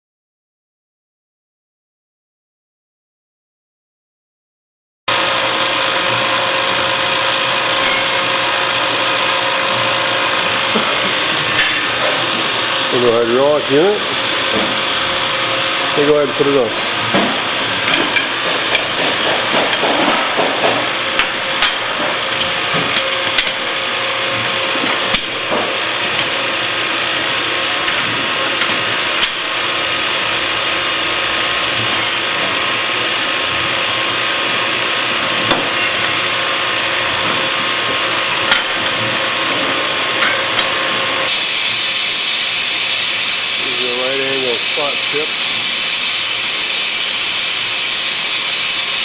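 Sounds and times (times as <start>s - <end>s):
hydraulic power unit running: 5.1s - 49.0s.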